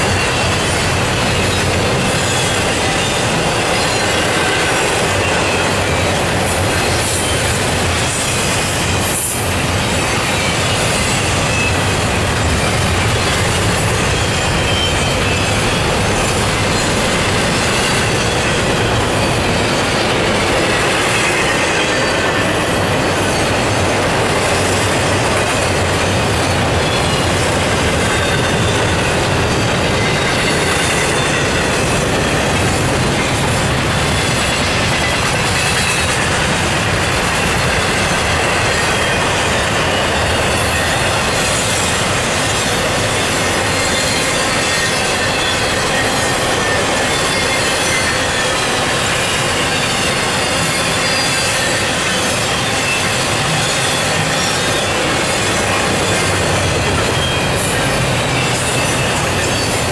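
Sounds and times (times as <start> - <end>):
high wheel squeal: 0.0 - 59.9
train wheels rumbling on rail: 0.0 - 59.9.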